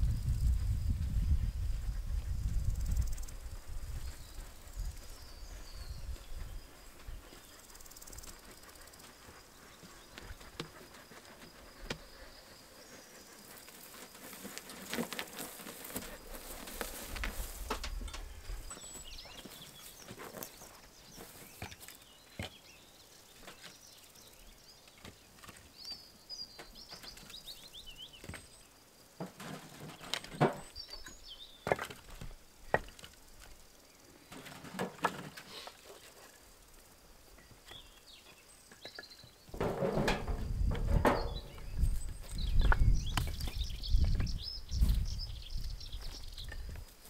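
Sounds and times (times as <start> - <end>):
small birds chirping: 0.2 - 29.0, 29.7 - 34.7, 35.4 - 47.0.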